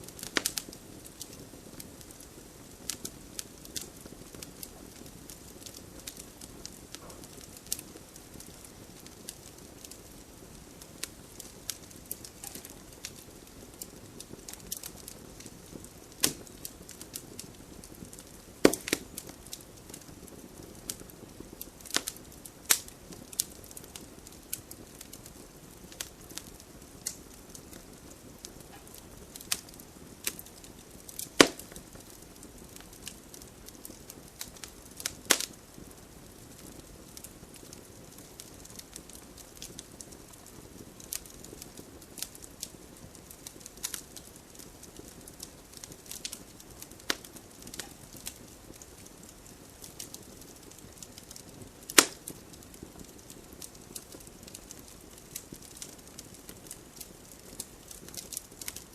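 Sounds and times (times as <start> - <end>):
campfire crackling and popping: 0.0 - 58.9
soft fire hiss: 0.0 - 58.9.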